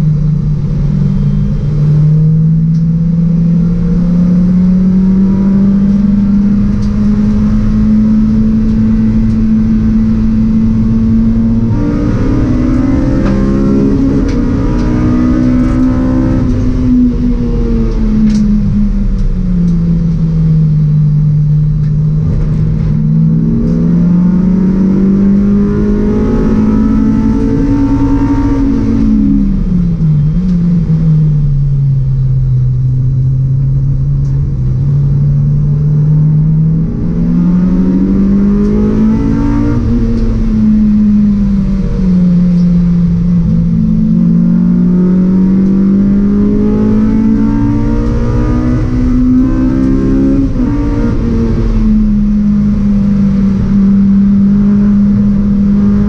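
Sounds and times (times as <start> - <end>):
race car engine revving hard: 0.0 - 31.2, 34.2 - 56.0.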